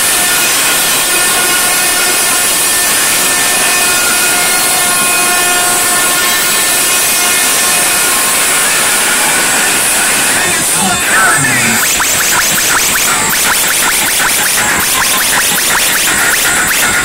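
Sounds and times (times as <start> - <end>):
distorted loud music: 0.0 - 17.0.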